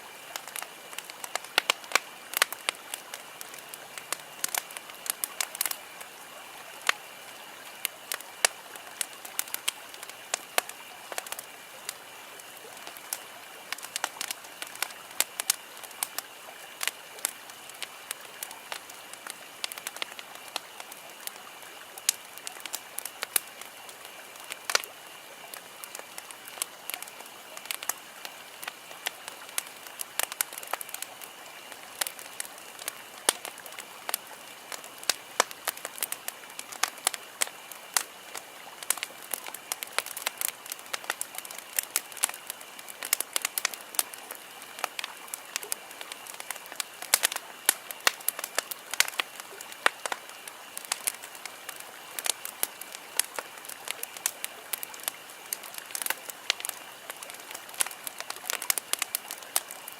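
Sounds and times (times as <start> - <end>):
campfire crackling and popping: 0.0 - 59.9
steady hiss: 0.0 - 59.9.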